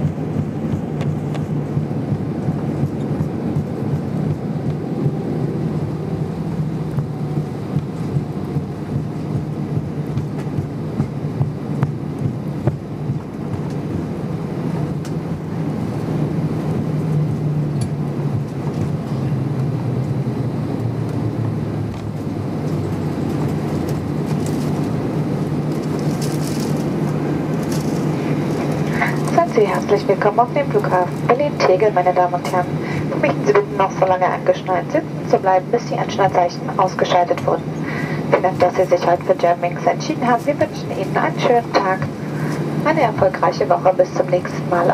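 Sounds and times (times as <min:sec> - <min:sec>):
airliner cabin low rumble: 0:00.0 - 0:44.9.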